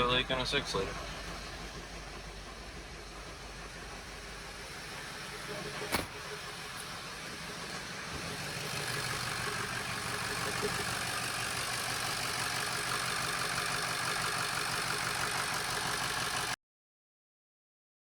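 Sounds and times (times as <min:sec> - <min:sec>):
diesel engine idling: 0:00.0 - 0:16.6.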